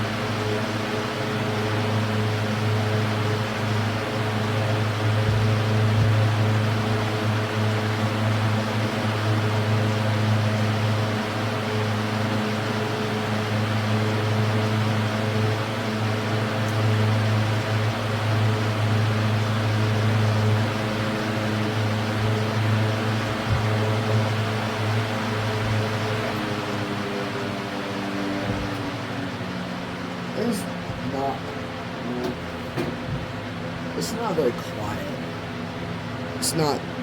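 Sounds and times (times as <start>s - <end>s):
box fan running: 0.0s - 37.0s.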